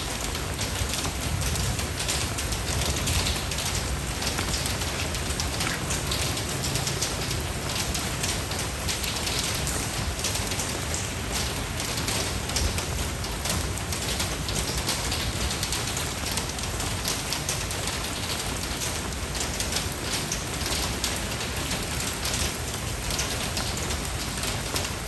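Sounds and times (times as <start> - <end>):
rain on a hard surface: 0.0 - 25.0.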